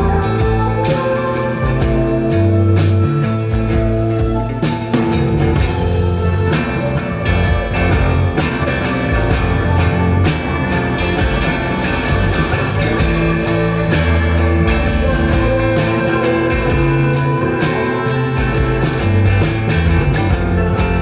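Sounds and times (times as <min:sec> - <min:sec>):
bass guitar: 0:00.0 - 0:21.0
drum kit beat: 0:00.0 - 0:21.0
electric guitar: 0:00.0 - 0:21.0.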